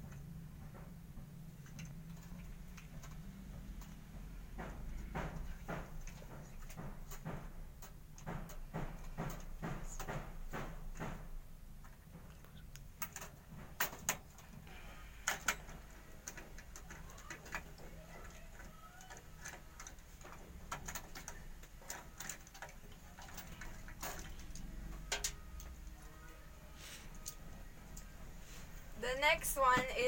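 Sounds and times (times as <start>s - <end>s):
computer parts clicking and tapping: 1.4s - 28.3s.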